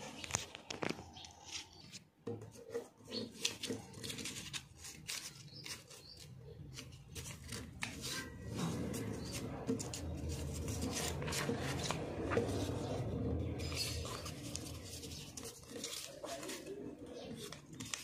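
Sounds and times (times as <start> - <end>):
paper rustling and crackling: 0.0 - 18.0.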